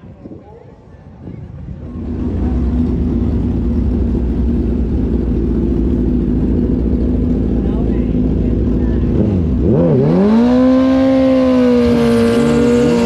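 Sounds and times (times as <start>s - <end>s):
motorcycle engine running loudly: 1.8s - 13.0s.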